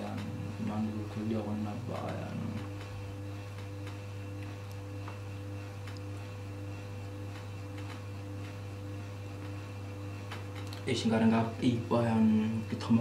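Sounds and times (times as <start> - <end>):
low electrical hum: 0.0 - 13.0
thin steady tone: 0.0 - 13.0
pulsing faint tone: 0.5 - 13.0.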